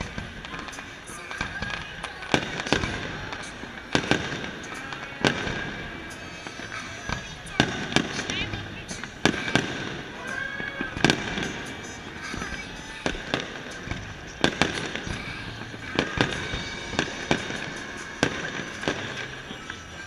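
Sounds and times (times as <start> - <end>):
continuous background din: 0.0 - 20.0
fireworks bangs: 0.0 - 20.0.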